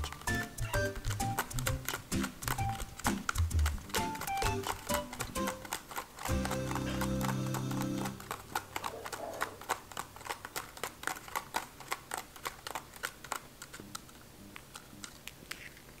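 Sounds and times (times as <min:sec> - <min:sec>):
kitten claws scratching plastic mat: 0:00.0 - 0:07.0, 0:08.0 - 0:16.0.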